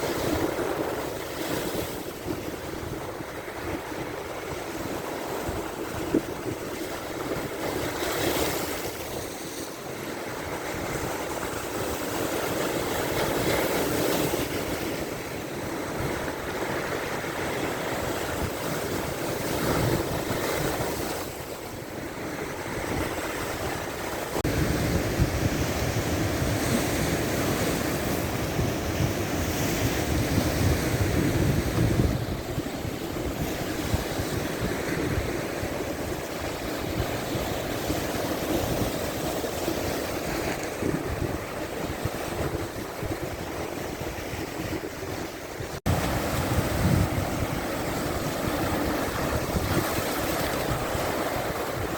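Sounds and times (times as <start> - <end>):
lake waves breaking: 0.0 - 51.9
wind buffeting microphone: 0.0 - 51.9.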